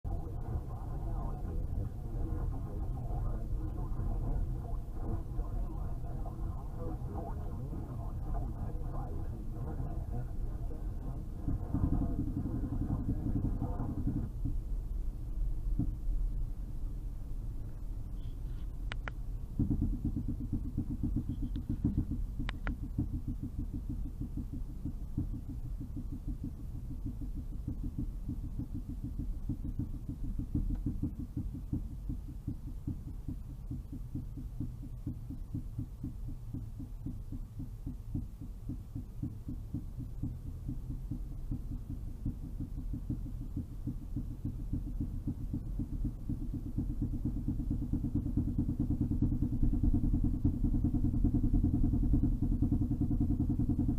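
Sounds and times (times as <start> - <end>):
fast low knocks: 0.0 - 53.9
low road rumble: 0.0 - 53.9.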